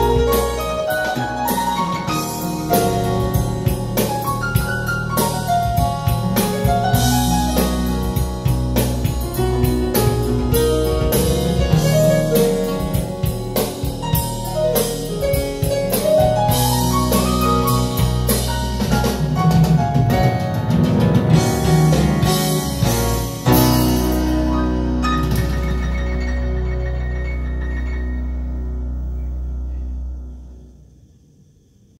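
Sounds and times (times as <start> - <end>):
music with piano and drums: 0.0 - 30.7.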